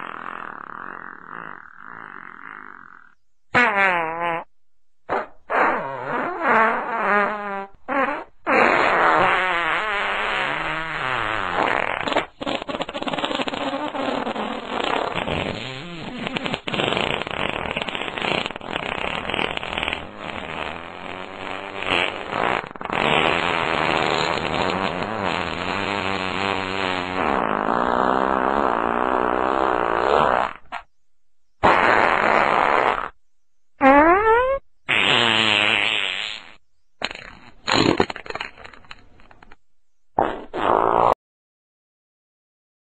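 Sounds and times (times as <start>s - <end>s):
fart sound effects: 0.0s - 4.5s, 5.1s - 30.9s, 31.6s - 33.2s, 33.8s - 39.6s, 40.2s - 41.2s.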